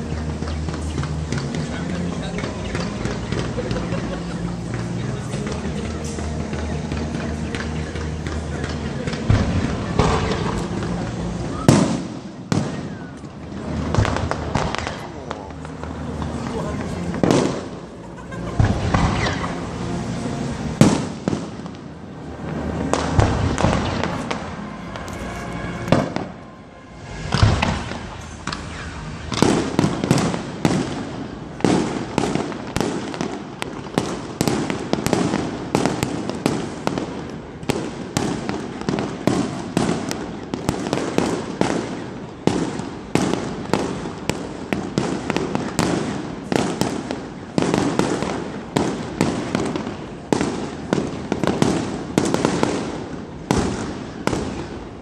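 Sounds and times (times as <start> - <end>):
rapid barrage of sharp reports: 0.0 - 53.1
fireworks booming: 0.0 - 55.0.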